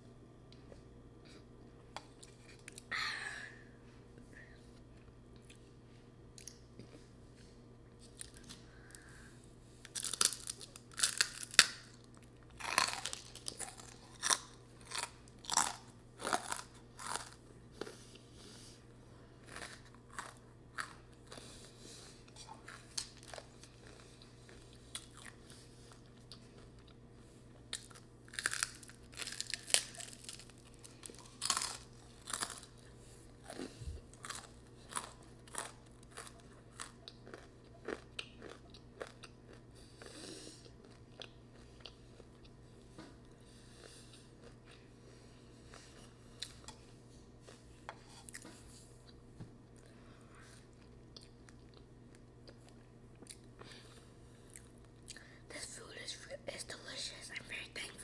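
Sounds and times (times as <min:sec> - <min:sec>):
person chewing noodles: 0:08.0 - 0:09.2, 0:09.8 - 0:55.4.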